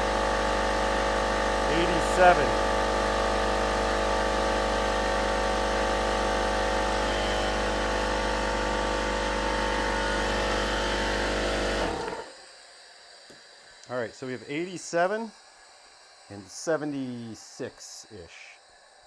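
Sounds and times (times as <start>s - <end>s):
air compressor running: 0.0s - 18.6s.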